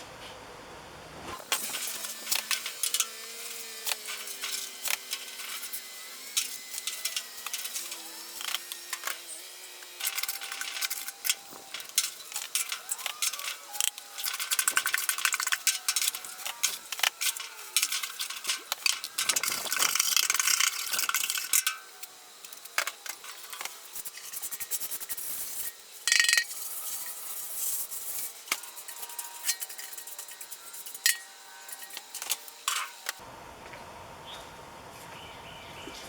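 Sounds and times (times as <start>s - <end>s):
metal scraping on copper: 1.5s - 33.2s.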